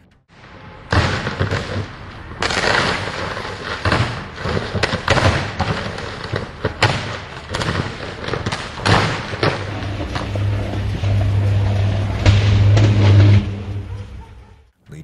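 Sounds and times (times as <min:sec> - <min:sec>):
loud electrical bangs: 0:00.3 - 0:13.9.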